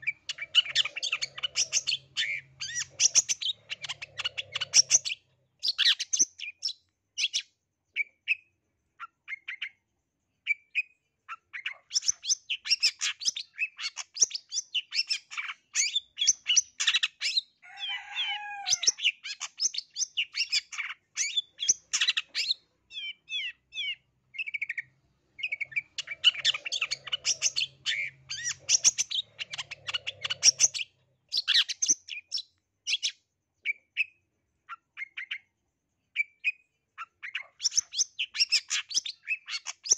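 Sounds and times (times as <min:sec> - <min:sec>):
bird singing chirps and trills: 0:00.0 - 0:09.8, 0:10.4 - 0:35.5, 0:36.1 - 0:39.9.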